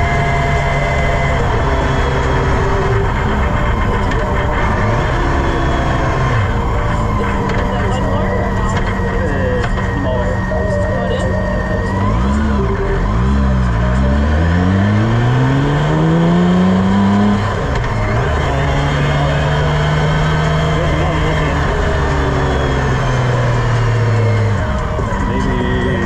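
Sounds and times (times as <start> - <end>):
engine accelerating: 0.0 - 26.0.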